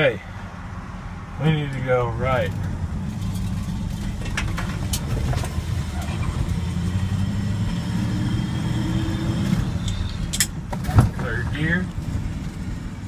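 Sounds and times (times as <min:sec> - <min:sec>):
truck engine low drone: 0:00.0 - 0:13.0.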